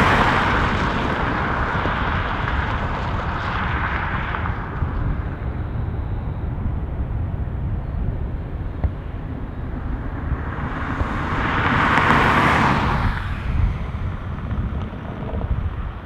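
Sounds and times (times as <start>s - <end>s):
constant low rumble: 0.0s - 16.0s
jet airliner passing: 0.0s - 16.0s.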